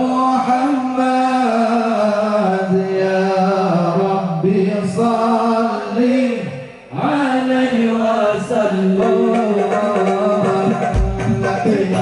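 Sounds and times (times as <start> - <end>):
devotional chant singing: 0.0 - 12.0.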